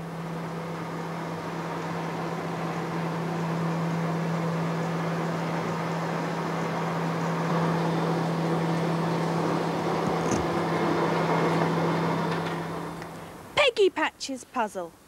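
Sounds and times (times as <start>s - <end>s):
wheel lathe machine hum: 0.0s - 13.2s.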